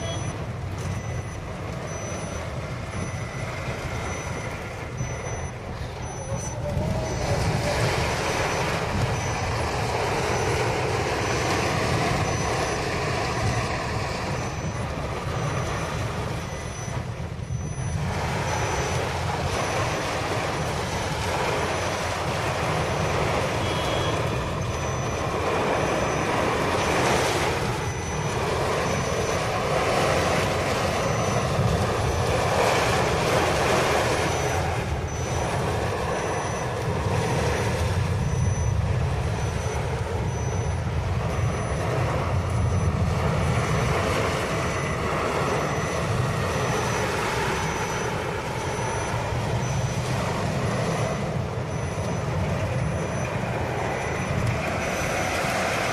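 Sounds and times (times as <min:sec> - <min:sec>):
car engine and tyres: 0:00.0 - 0:55.9
heavy rain on car roof: 0:00.0 - 0:55.9
windscreen wipers sweeping: 0:00.0 - 0:55.9.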